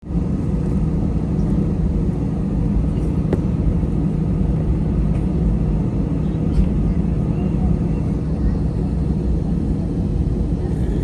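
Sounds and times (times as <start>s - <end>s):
constant low hum: 0.0s - 11.0s
jet engines rumbling: 0.0s - 11.0s.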